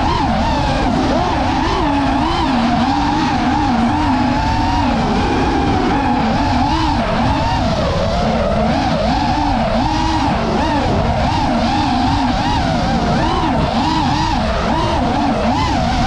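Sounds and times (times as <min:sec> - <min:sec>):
drone propellers whining: 0:00.0 - 0:16.0
wind rumbling on microphone: 0:00.0 - 0:16.0.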